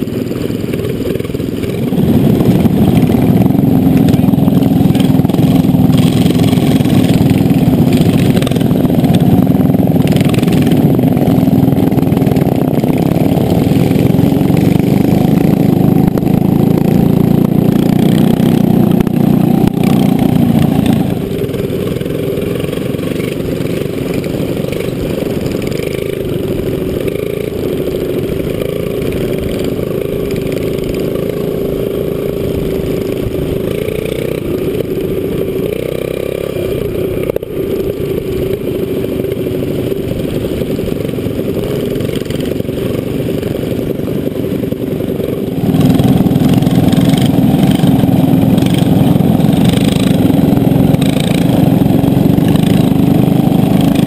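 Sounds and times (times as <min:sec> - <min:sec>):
mini bike engines running: 0:00.0 - 0:54.0
mini bikes riding by: 0:00.0 - 0:54.0.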